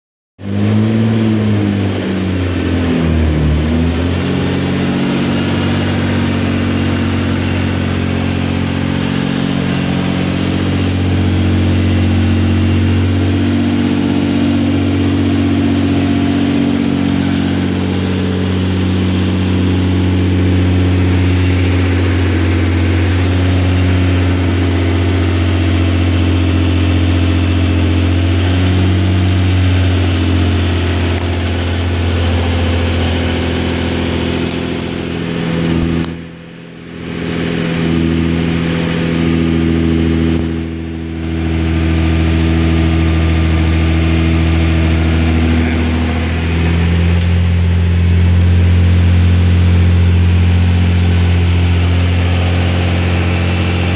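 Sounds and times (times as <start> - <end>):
car engine idling: 0.4 - 53.9.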